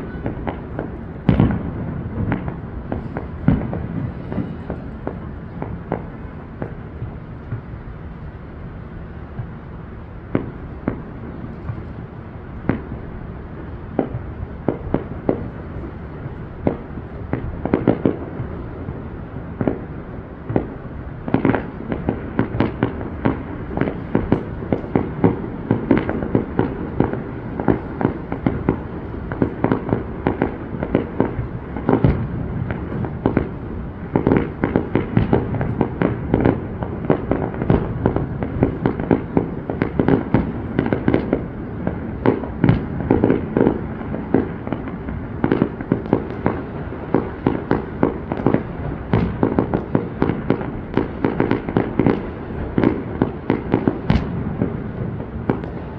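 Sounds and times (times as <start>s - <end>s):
fireworks bangs: 0.0s - 55.9s.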